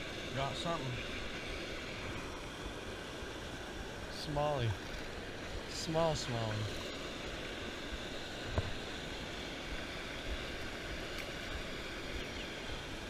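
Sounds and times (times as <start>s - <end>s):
river water rushing over weir: 0.0s - 13.0s.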